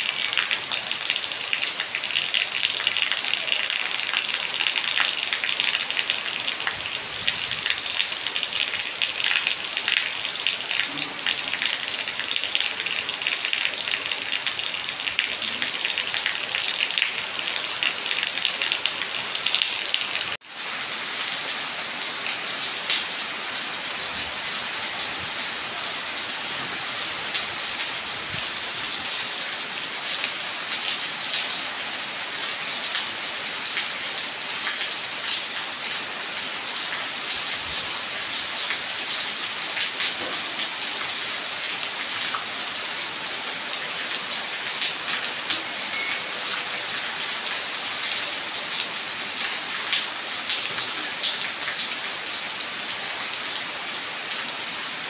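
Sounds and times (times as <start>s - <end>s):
rain on stone steps: 0.0s - 55.0s.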